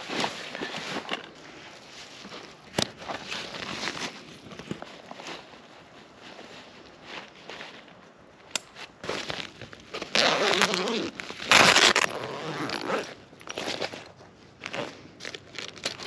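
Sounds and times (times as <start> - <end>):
material rustling and crinkling: 0.0 - 16.0.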